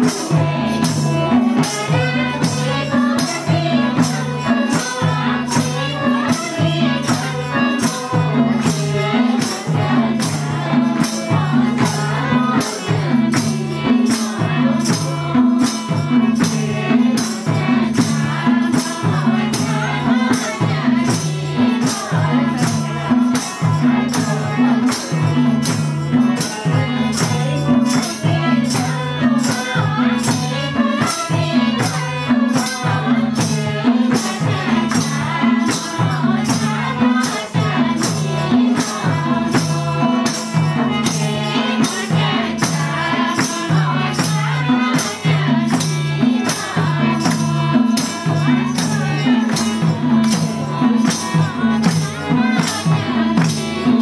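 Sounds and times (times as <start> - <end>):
harmonium: 0.0 - 54.0
women singing folk song: 0.0 - 54.0.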